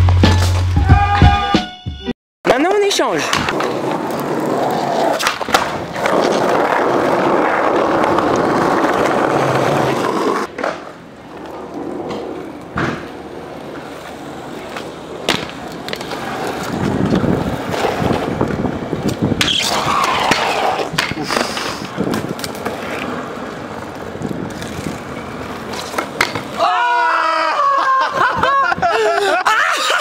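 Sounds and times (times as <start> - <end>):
scooter wheels rolling on asphalt: 2.5 - 30.0.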